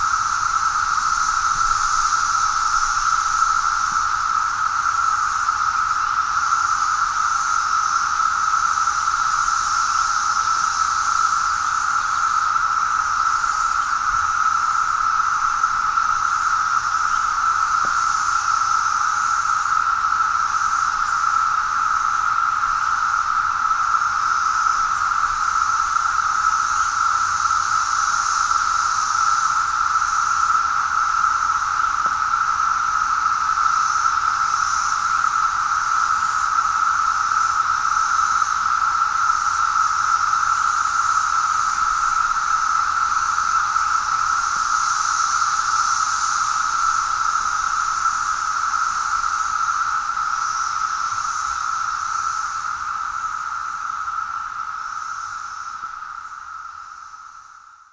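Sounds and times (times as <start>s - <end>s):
cicadas droning chorus: 0.0s - 57.9s.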